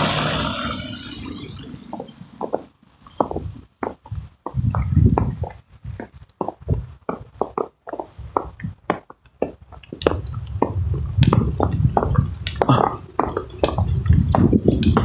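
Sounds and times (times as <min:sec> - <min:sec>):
low rumble: 0:00.0 - 0:07.0, 0:09.9 - 0:15.0.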